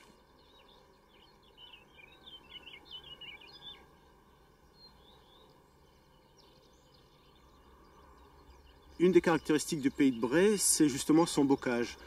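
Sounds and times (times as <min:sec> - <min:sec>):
faint outdoor background noise: 0:00.0 - 0:12.0
songbird twittering: 0:00.0 - 0:12.0.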